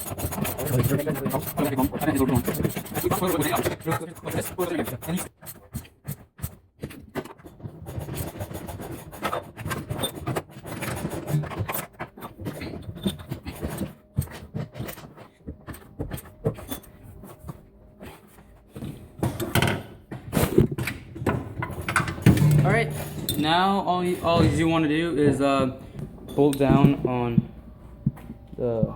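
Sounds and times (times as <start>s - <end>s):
hand tools clicking and scraping: 0.0s - 25.6s.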